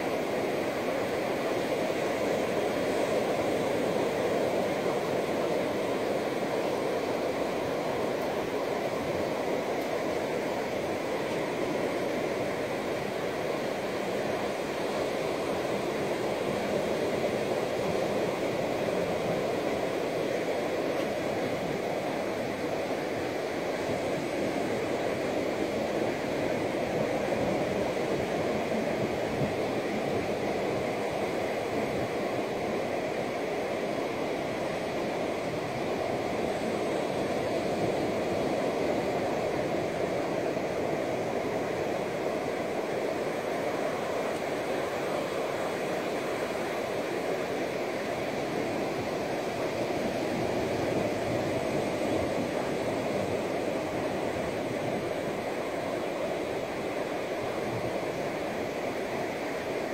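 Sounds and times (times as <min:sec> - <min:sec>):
ocean surf on sandy beach: 0:00.0 - 0:59.9
waves breaking on shore: 0:00.0 - 0:59.9.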